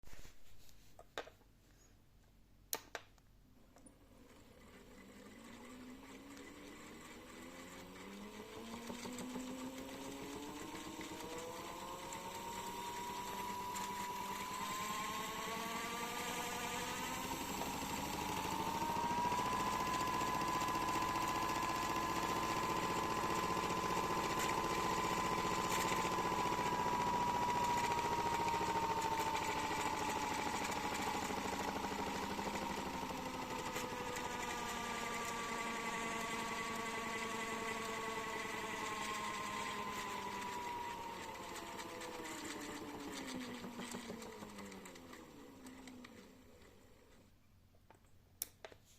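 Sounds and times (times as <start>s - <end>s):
washing machine motor whining: 3.9s - 47.2s.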